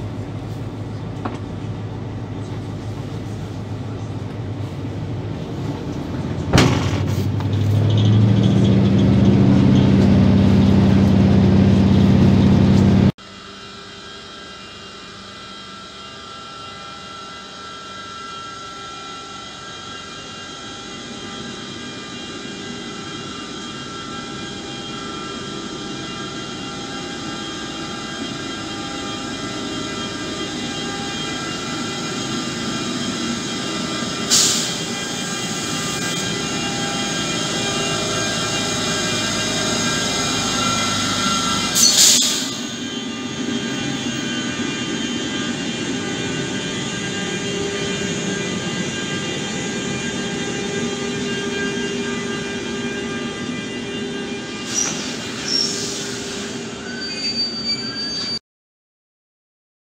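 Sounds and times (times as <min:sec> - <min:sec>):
freight train rolling past: 0:00.0 - 0:13.2, 0:15.4 - 0:58.4
locomotive whining tones: 0:00.0 - 0:13.2, 0:14.2 - 0:58.4.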